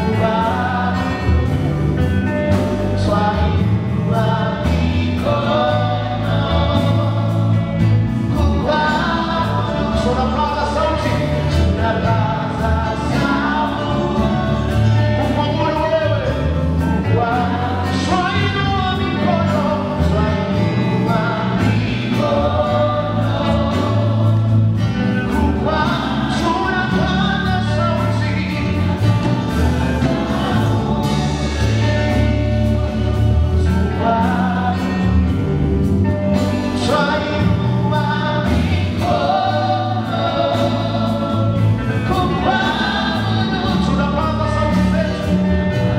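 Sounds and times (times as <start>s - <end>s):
band with bass and drums: 0.0s - 45.9s
choir singing: 0.0s - 45.9s.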